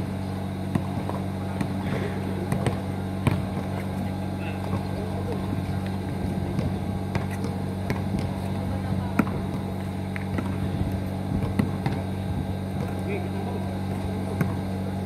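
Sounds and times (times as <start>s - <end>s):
steady low hum: 0.0s - 15.0s
faint voices: 0.4s - 15.0s
basketball bouncing on asphalt: 0.6s - 14.8s.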